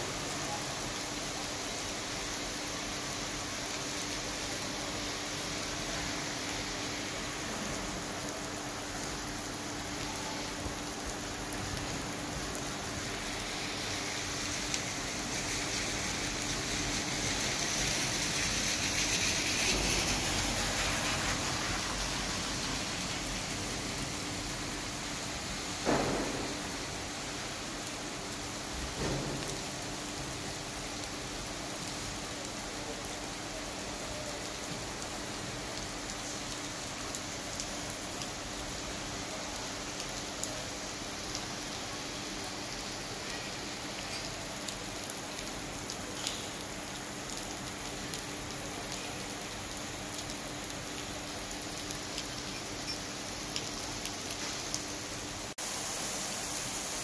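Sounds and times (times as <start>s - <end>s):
rain on asphalt: 0.0s - 57.0s.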